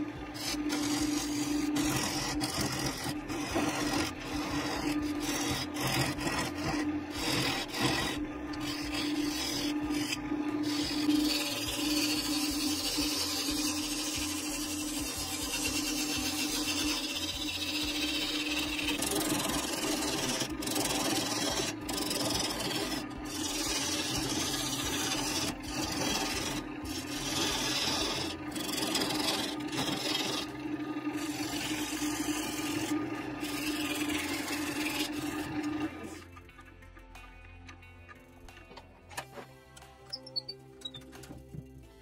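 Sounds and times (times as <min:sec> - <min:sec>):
lathe tool shaving wood: 0:00.0 - 0:36.6
lathe motor hum: 0:00.0 - 0:36.7.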